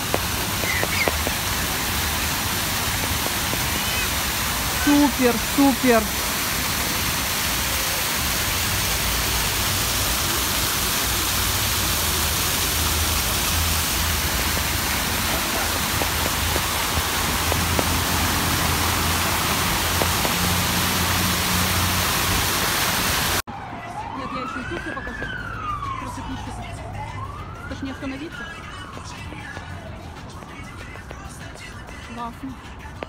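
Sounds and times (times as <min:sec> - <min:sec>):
fountain water splashing: 0:00.0 - 0:23.4, 0:24.2 - 0:26.8, 0:27.7 - 0:33.0.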